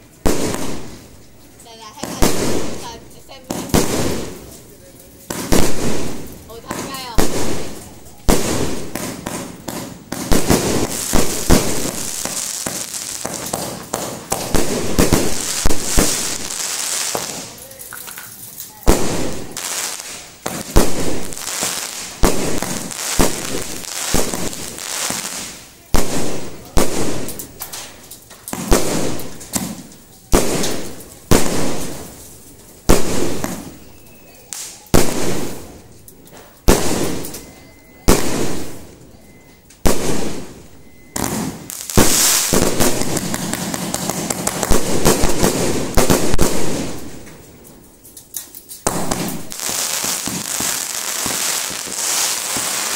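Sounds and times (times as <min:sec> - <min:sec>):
fireworks bangs: 0:00.0 - 0:47.9, 0:48.7 - 0:52.9
fireworks crackle: 0:00.0 - 0:52.9.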